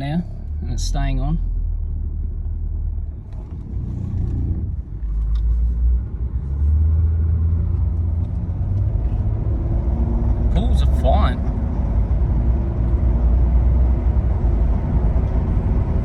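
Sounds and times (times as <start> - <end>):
car engine accelerating: 0.0 - 16.0
road noise inside car: 0.0 - 16.0.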